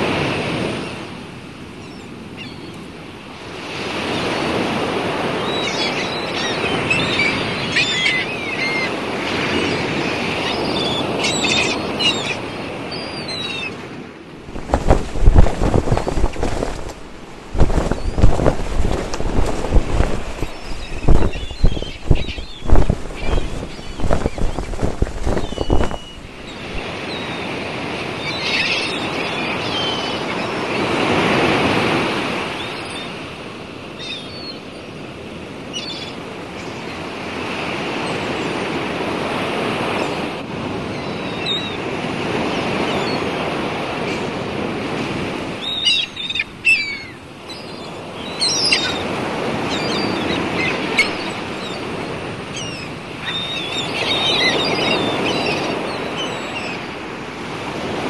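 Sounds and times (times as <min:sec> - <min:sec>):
sea waves washing in: 0:00.0 - 0:34.0, 0:41.7 - 0:58.0.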